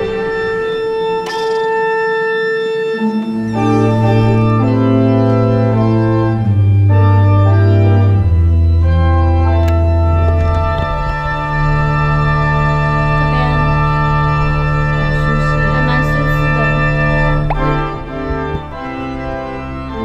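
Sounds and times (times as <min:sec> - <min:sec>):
pipe organ chords: 0:00.0 - 0:20.0.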